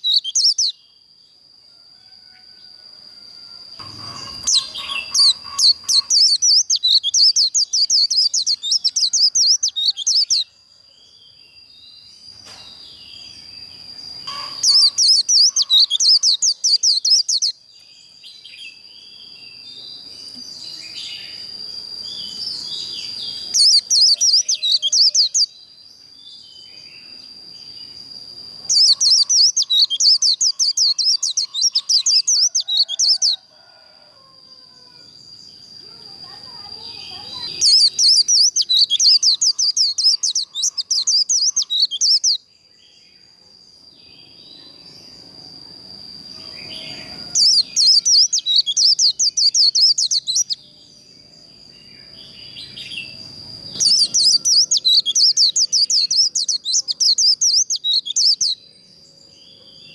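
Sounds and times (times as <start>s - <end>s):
soft bird chirps: 0.0s - 0.9s, 3.8s - 34.0s, 34.8s - 43.4s, 46.4s - 59.9s
bird singing twittering song: 0.0s - 1.6s, 2.2s - 59.9s.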